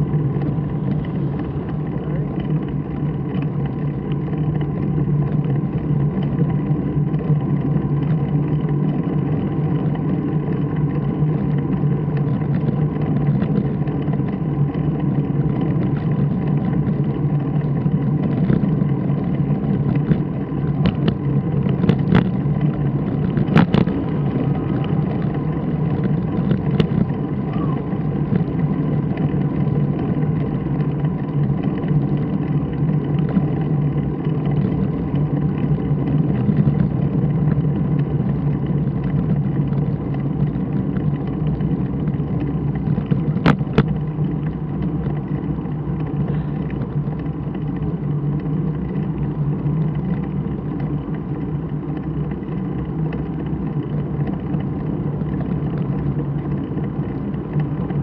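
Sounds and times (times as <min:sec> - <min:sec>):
wind and road noise rumble: 0:00.0 - 0:58.0.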